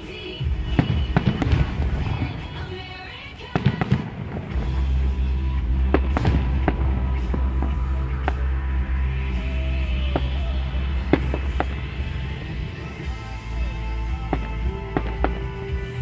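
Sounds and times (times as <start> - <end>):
music with heavy bass: 0.0 - 2.9, 3.6 - 16.0
fireworks bursting: 0.0 - 16.0.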